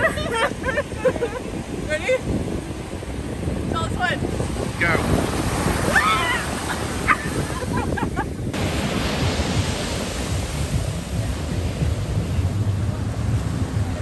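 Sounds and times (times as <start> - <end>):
ocean surf breaking: 0.0 - 14.0
wind on the microphone: 0.0 - 14.0.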